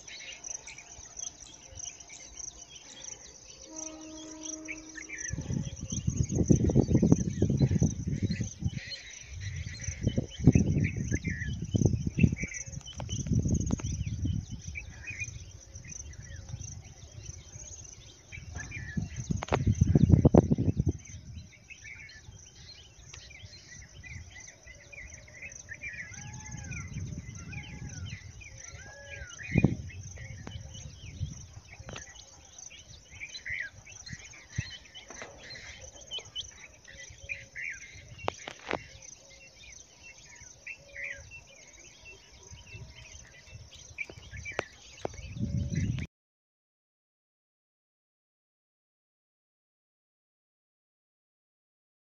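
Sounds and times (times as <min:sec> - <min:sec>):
birds chirping: 0:00.0 - 0:46.1.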